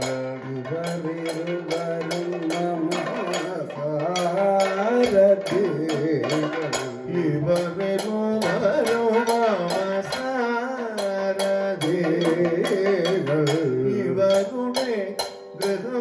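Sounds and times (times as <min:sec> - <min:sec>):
cymbals: 0:00.0 - 0:16.0
drum strokes: 0:00.0 - 0:16.0
man singing ornamented melody: 0:00.0 - 0:16.0.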